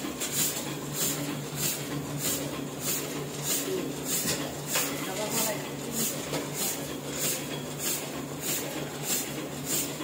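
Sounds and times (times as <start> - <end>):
printing press hiss: 0.0 - 10.0
printing press hum: 0.0 - 10.0.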